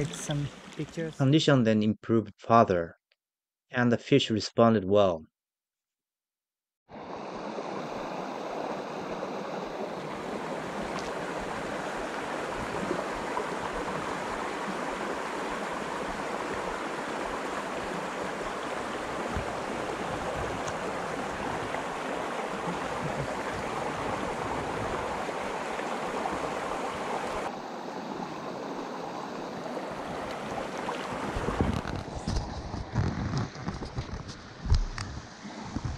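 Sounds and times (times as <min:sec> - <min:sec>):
stream running over rocks: 0:00.0 - 0:01.2, 0:06.9 - 0:35.9.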